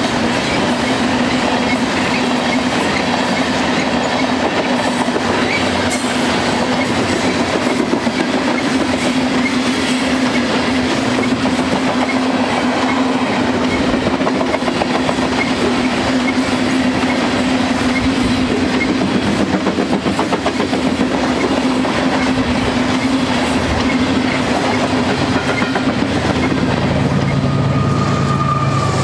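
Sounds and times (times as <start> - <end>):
wheels clacking over rail joints: 0.0 - 27.3
diesel locomotive humming: 0.0 - 29.0
freight train wheels rumbling: 0.0 - 29.0.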